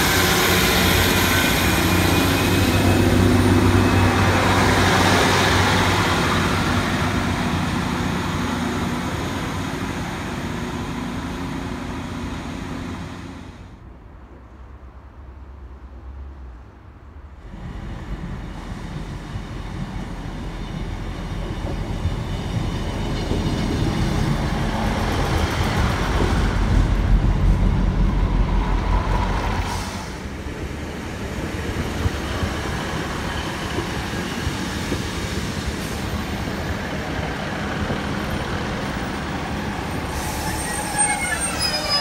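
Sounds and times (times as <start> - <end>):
train engine rumble: 0.0 - 42.0
train passing by: 0.0 - 42.0.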